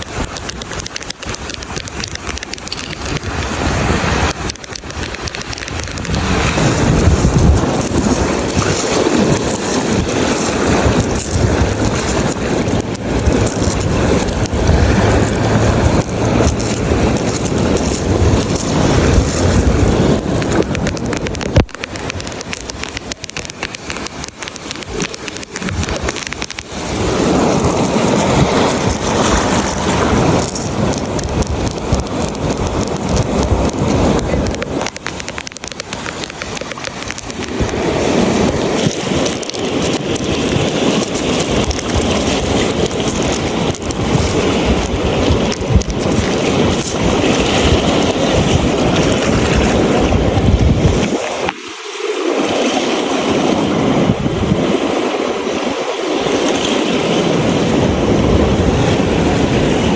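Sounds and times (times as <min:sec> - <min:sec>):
beach surf: 0:00.0 - 0:59.9
wind buffeting microphone: 0:00.0 - 0:59.9.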